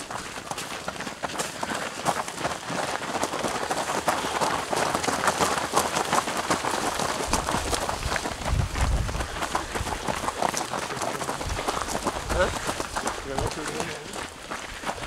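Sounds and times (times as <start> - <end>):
runners' footsteps on gravel: 0.0 - 15.0.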